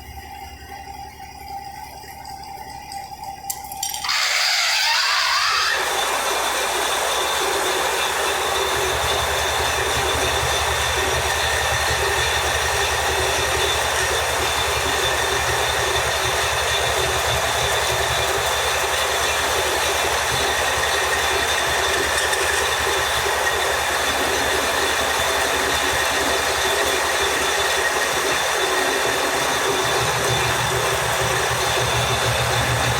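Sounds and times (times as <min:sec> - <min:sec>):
metal lathe running: 0:03.8 - 0:32.9.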